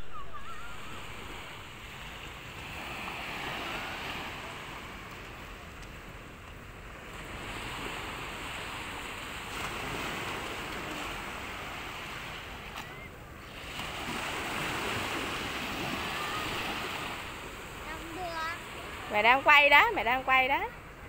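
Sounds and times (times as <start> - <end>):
waves breaking on sandy beach: 0.0 - 21.0.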